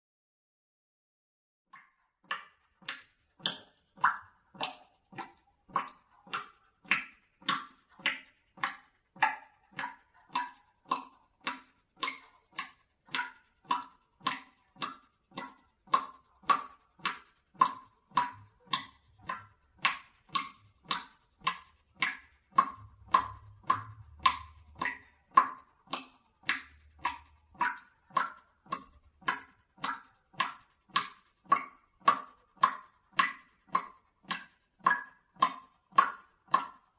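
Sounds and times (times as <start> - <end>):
water dripping into bucket: 1.7 - 36.9.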